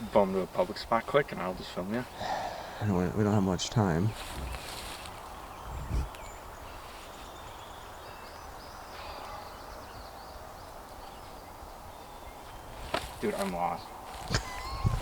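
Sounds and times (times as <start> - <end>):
songbird chirps: 0.0 - 15.0.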